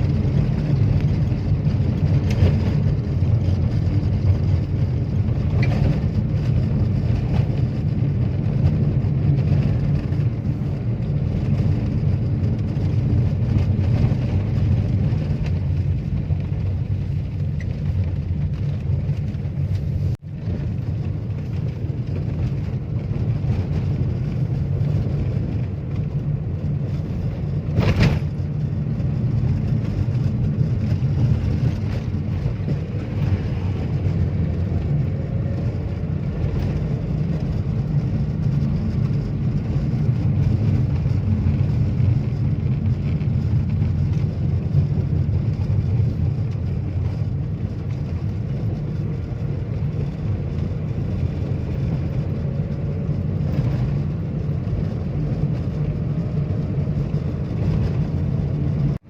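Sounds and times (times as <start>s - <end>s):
road noise: 0.0s - 59.0s
vehicle engine rumble: 0.0s - 59.0s.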